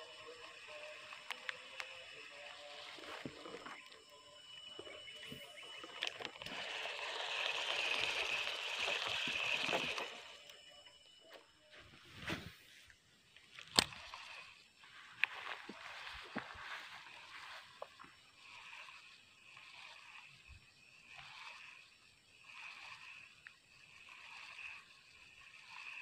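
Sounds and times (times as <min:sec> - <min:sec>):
fishing reel whirring: 0:00.0 - 0:26.0.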